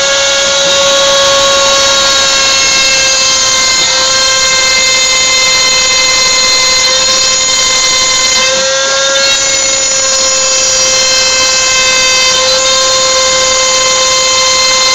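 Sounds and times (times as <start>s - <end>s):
rotary tool high-pitched whine: 0.0s - 14.9s.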